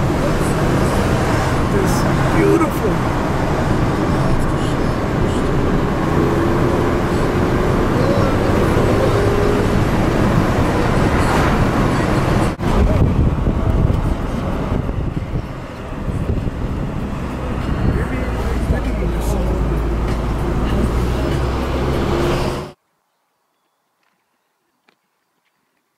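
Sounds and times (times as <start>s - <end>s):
car road and engine rumble: 0.0s - 22.8s.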